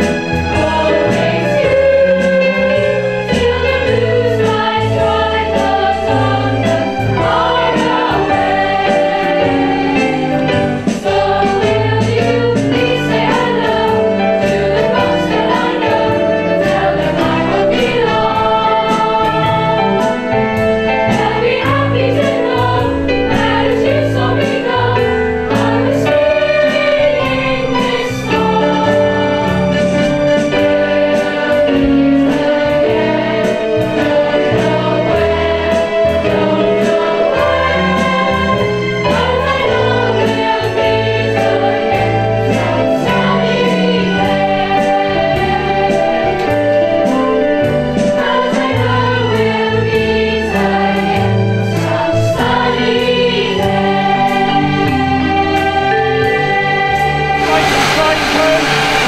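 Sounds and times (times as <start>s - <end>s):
choir singing through pa: 0.0s - 59.0s
instrumental backing with bass: 0.0s - 59.0s.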